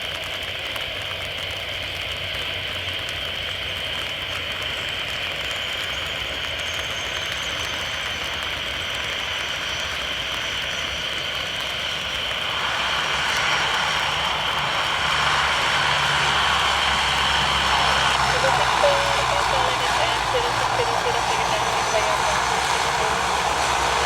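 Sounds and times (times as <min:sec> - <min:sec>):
jet engines rushing and whining: 0:00.0 - 0:24.0.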